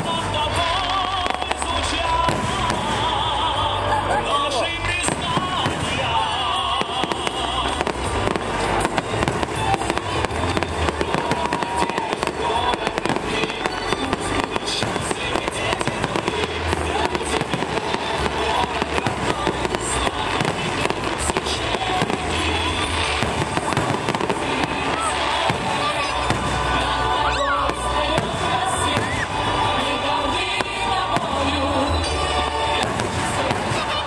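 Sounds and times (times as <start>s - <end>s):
fireworks bursting and crackling: 0.0s - 34.0s.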